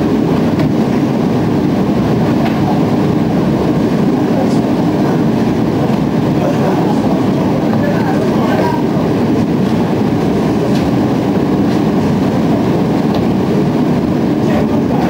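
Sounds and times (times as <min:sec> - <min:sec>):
ferry engines rumbling: 0:00.0 - 0:15.0
rushing air: 0:00.0 - 0:15.0.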